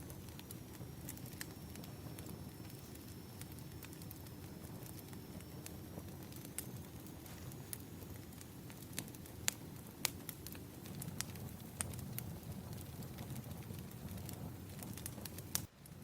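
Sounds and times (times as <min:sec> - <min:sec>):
burning logs rustling: 0:00.0 - 0:16.0
sharp pops of burning wood: 0:00.0 - 0:16.0.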